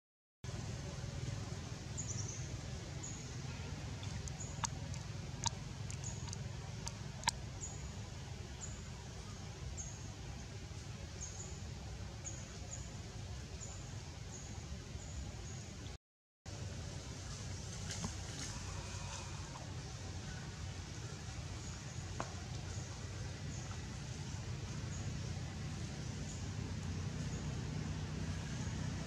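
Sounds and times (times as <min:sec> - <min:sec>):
low outdoor rumble: 0:00.5 - 0:29.0.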